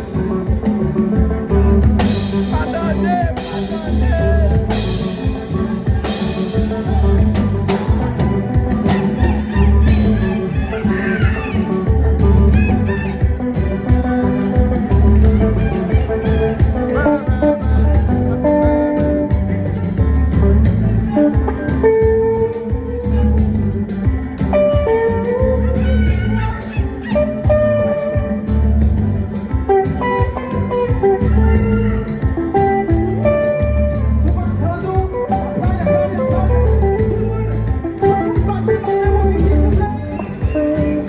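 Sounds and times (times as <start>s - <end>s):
heavy bass line: 0.0s - 41.0s
pitch-bending lead melody: 0.0s - 41.0s
steady drum beat: 0.0s - 41.0s.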